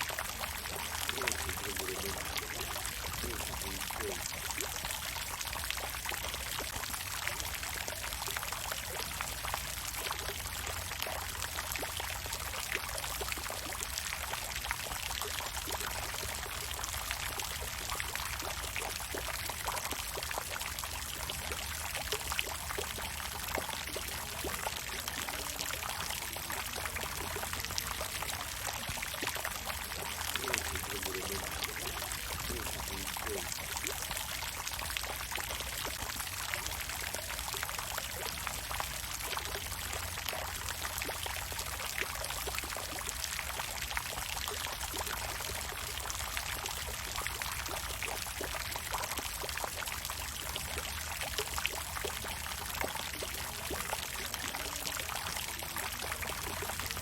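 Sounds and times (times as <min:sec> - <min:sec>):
water fountain splashing: 0:00.0 - 0:57.0.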